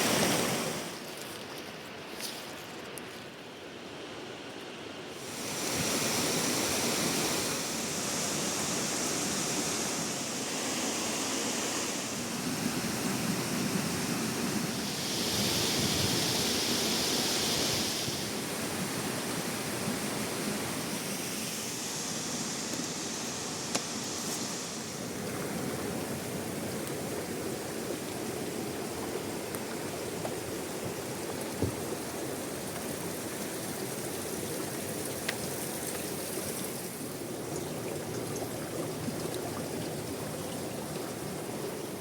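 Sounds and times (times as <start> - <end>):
flowing water rushing: 0.0 - 2.1, 5.0 - 42.0.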